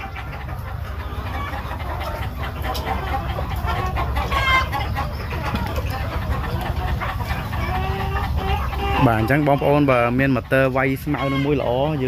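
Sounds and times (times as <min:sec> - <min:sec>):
chickens clucking: 0:00.0 - 0:12.0
drawn-out chicken call: 0:00.0 - 0:12.0.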